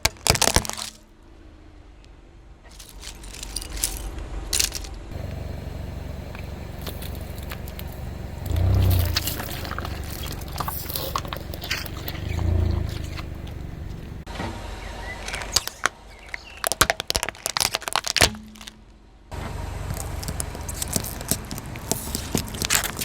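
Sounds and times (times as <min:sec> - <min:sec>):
tyre crushing small objects: 0:00.0 - 0:01.1, 0:02.7 - 0:05.4, 0:06.3 - 0:14.2, 0:15.1 - 0:19.0, 0:19.8 - 0:23.0
car engine rumble: 0:00.0 - 0:23.0.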